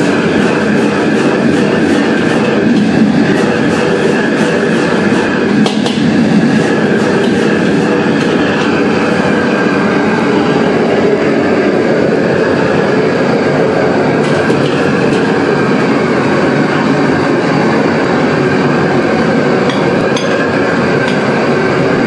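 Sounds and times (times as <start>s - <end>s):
gas burner roaring: 0.0s - 22.0s.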